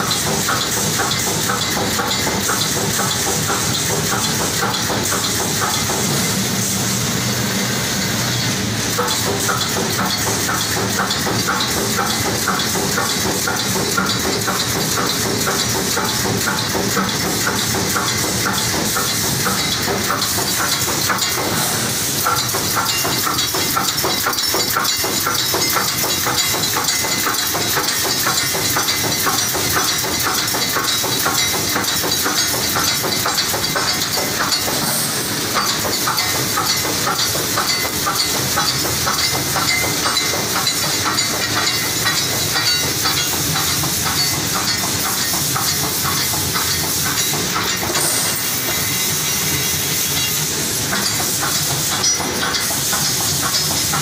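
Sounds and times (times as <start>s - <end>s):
welding machine clacking: 0.0s - 54.0s.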